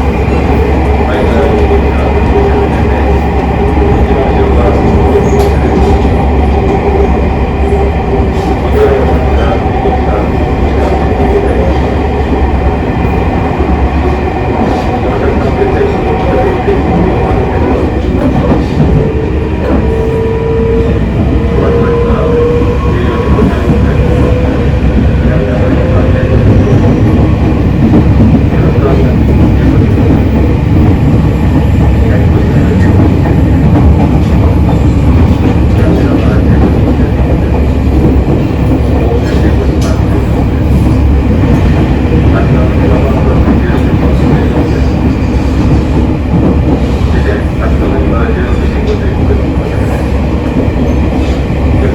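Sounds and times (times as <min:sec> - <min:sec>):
electric train running: 0:00.0 - 0:51.9.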